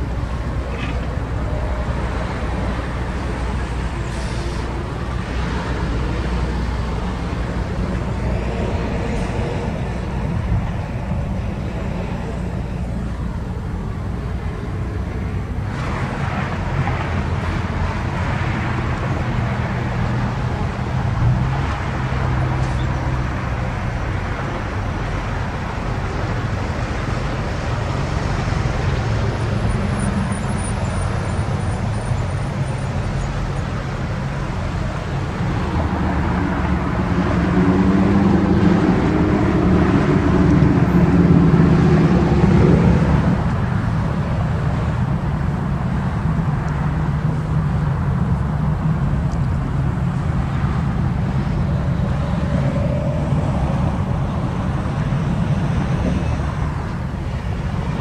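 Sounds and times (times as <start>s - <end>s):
truck passing: 0.0s - 58.0s.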